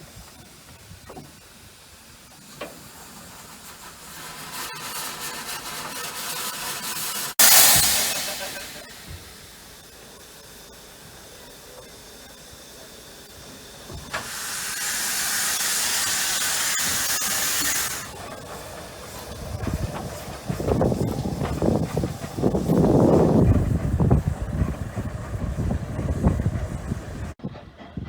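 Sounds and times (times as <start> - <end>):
steam locomotive hissing: 0.0 - 28.0.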